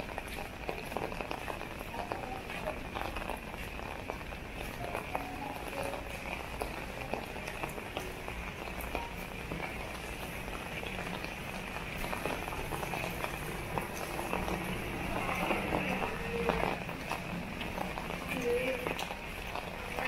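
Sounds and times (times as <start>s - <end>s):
raindrops ticking on umbrella: 0.0s - 20.0s.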